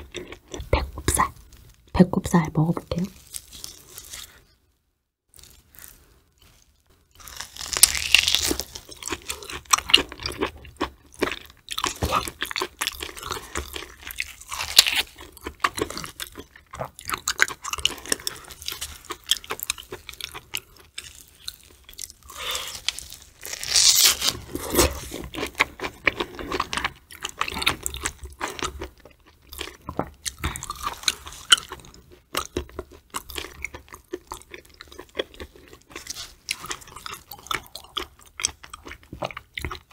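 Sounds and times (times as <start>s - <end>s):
person biting and chewing: 5.3s - 39.9s.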